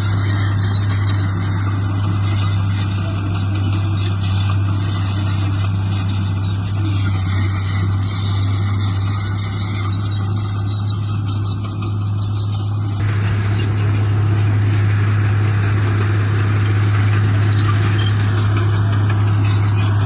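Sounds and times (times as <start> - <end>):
heavy diesel machinery engine: 0.0 - 20.0.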